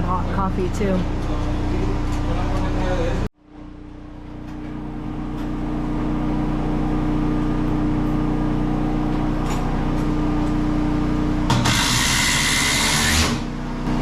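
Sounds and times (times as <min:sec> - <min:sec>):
motor humming steadily: 0:00.0 - 0:14.0.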